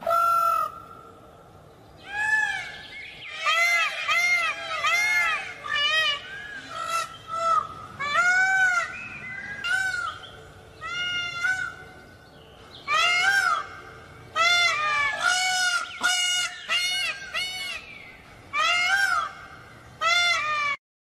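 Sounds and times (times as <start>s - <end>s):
peacocks calling: 0.0s - 1.4s, 2.0s - 20.8s.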